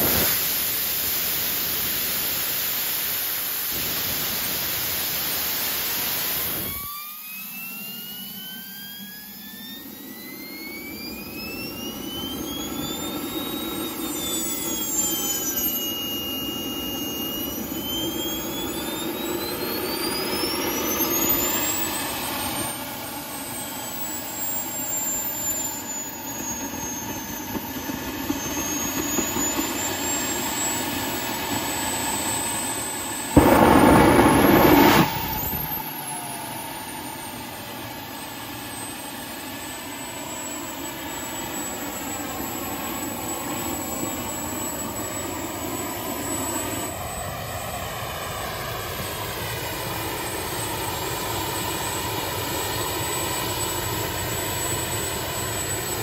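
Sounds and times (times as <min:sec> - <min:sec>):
jet engine roar: 0:00.0 - 0:56.0
jet engine whining: 0:00.0 - 0:56.0.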